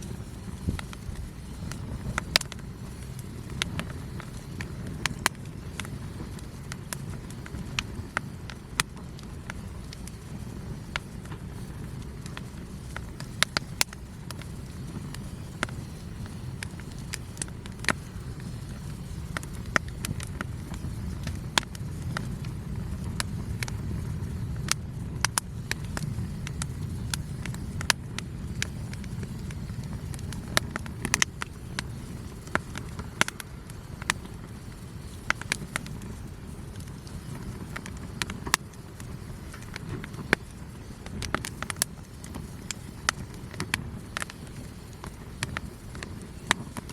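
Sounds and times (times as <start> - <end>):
campfire crackling: 0.0 - 46.9
fire snaps and pops: 0.0 - 46.9
low fire rumble: 0.0 - 46.9.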